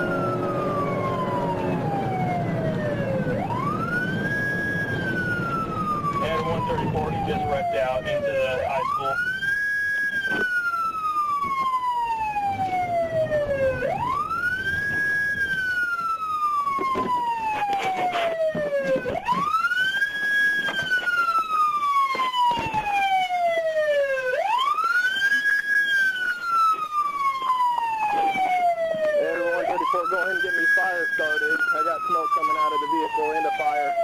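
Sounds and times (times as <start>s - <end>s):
police siren wailing: 0.0s - 34.0s.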